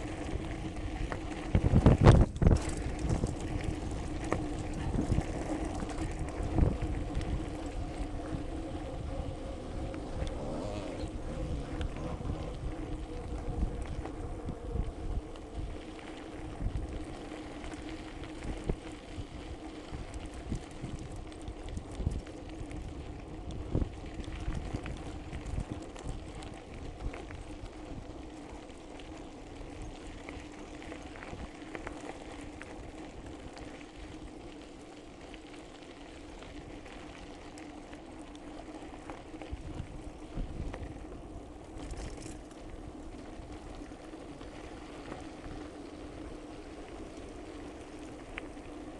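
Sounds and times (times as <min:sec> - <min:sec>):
bike rattling over bumps: 0:00.0 - 0:48.9
steady hum: 0:00.0 - 0:48.9.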